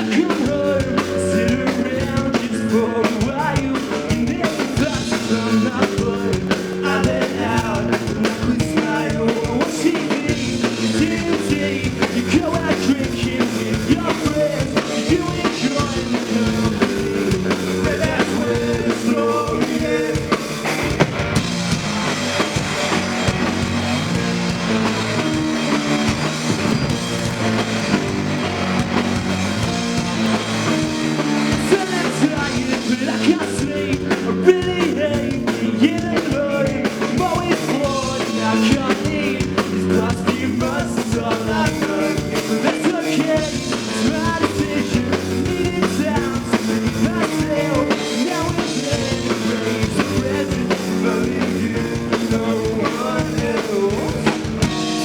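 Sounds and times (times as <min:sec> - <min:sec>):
drum kit: 0:00.0 - 0:55.0
rock band playing: 0:00.0 - 0:55.0.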